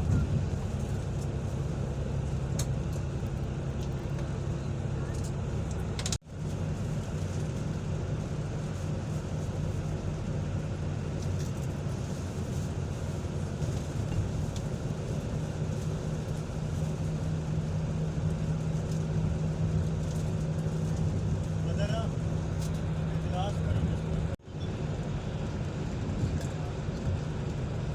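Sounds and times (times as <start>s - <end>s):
road noise: 0.0s - 27.9s
vehicle engine hum: 0.0s - 27.9s.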